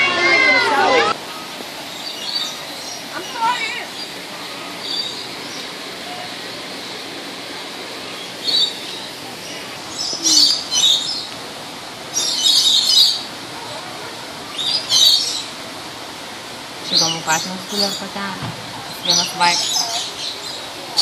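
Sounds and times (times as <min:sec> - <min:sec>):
birds chirping: 0:00.0 - 0:21.0
outdoor background noise: 0:00.0 - 0:21.0.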